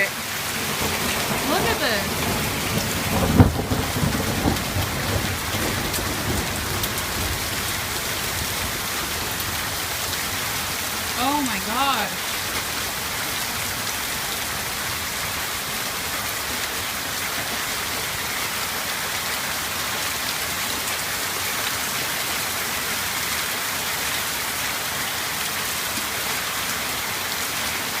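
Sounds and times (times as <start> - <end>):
hail and rain pelting down: 0.0 - 28.0.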